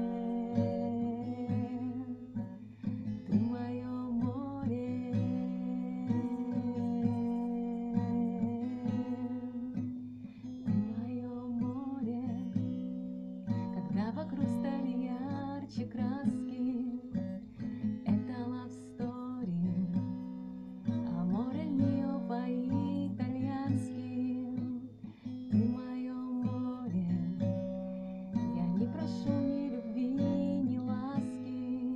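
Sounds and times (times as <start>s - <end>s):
strummed acoustic guitar: 0.0s - 31.9s
woman singing: 0.0s - 31.9s.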